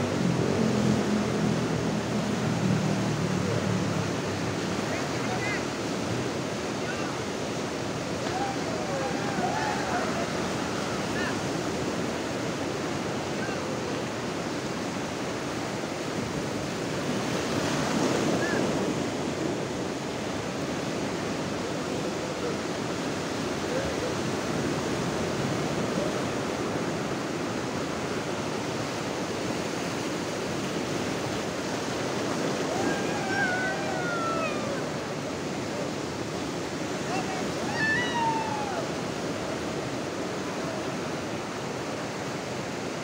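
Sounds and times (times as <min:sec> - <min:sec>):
sea surf breaking on beach: 0:00.0 - 0:43.0.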